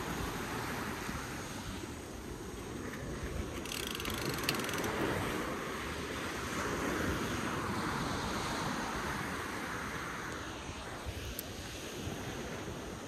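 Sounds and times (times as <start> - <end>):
surf washing up sand: 0.0 - 13.0.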